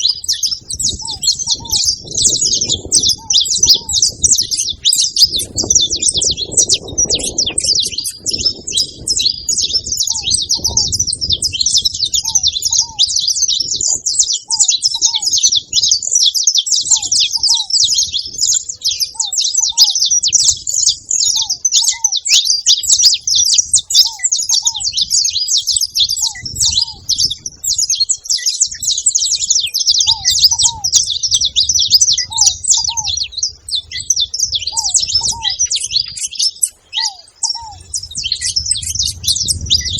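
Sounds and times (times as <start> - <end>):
flock of finches chirping: 0.0 - 39.9
paired lower bird notes: 0.0 - 39.9.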